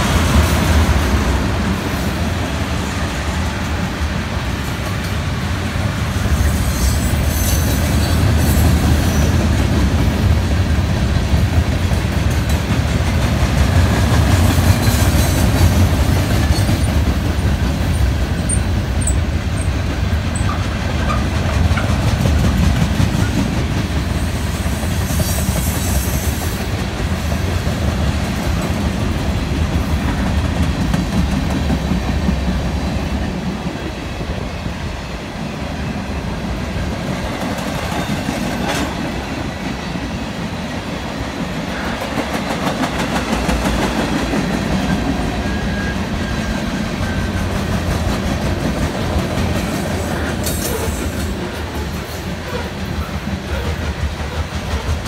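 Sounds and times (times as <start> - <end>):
freight train wheels clacking: 0.0 - 55.0.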